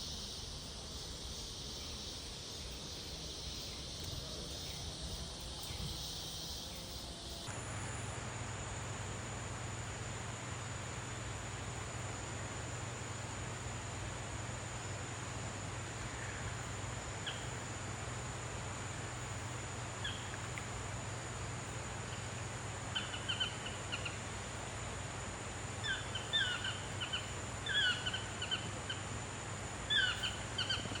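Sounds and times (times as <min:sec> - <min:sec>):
steady hiss: 0:00.0 - 0:31.0.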